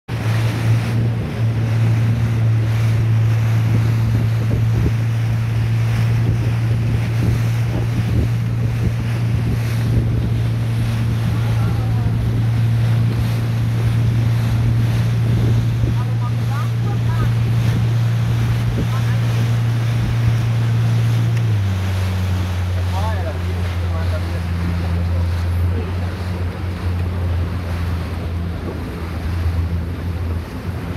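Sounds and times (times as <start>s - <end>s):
wind on microphone: 0.1s - 22.9s, 23.9s - 30.9s
motorboat engine droning: 0.1s - 30.9s
water rushing past hull: 0.1s - 30.9s.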